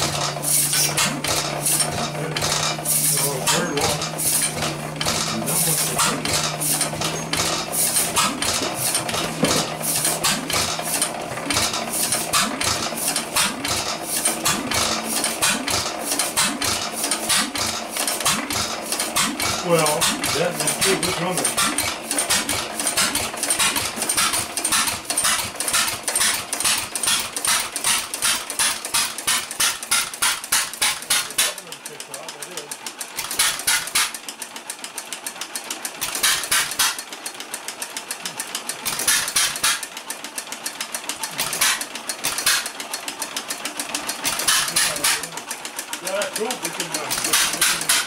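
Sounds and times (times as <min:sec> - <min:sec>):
gas engine metallic clatter: 0:00.0 - 0:48.0.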